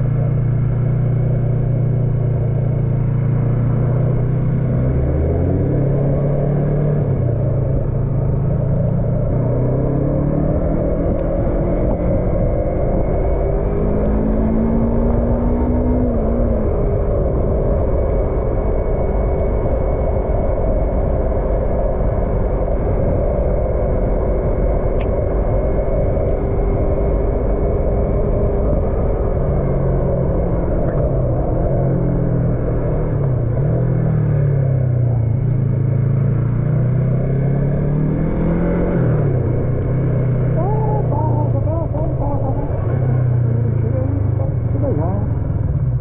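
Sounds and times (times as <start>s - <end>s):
motorcycle engine running: 0.0s - 46.0s
wind and road rush: 0.0s - 46.0s.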